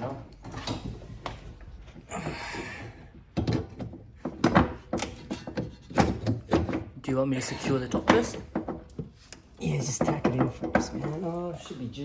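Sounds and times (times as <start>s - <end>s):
metal clunks and knocks: 0.4s - 7.0s, 7.7s - 11.4s.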